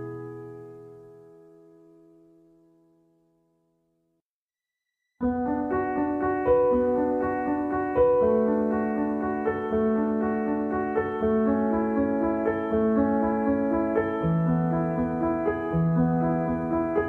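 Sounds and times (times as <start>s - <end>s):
piano music: 0.0s - 3.3s, 5.2s - 17.0s.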